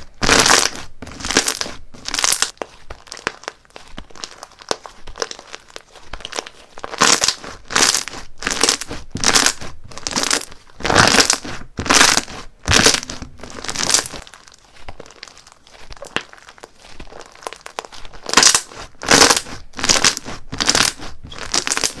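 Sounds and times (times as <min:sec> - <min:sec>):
slime crackling squeezed by hand: 0:00.0 - 0:22.0.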